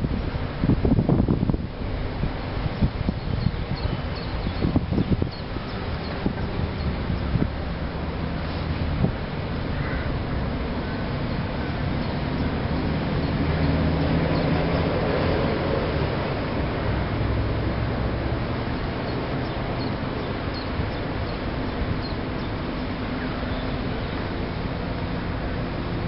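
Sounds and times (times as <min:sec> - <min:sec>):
low mechanical rumble with hum: 0:00.0 - 0:26.0.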